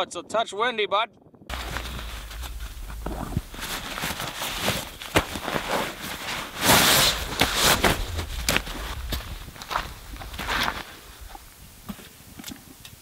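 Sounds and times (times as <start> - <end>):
sleeping bag rustling: 1.5 - 12.4.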